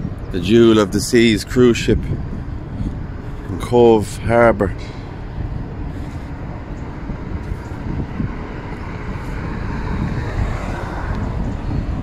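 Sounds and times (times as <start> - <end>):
engine rumble: 0.0 - 12.0
traffic noise: 0.0 - 12.0.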